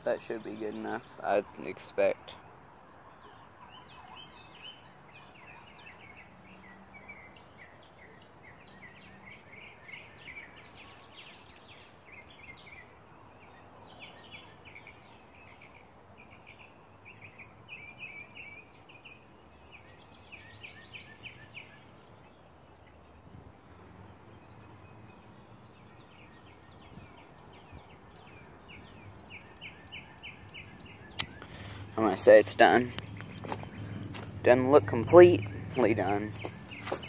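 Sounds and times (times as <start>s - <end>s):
small birds chirping: 0.0s - 37.0s
steady outdoor hiss: 0.0s - 37.0s.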